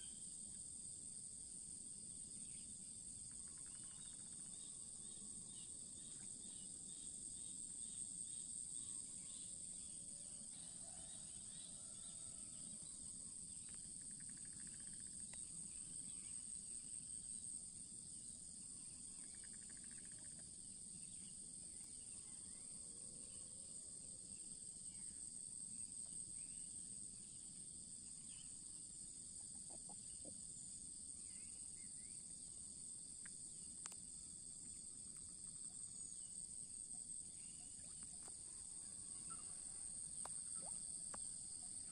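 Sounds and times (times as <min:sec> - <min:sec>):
insects chirping: 0:00.0 - 0:41.9.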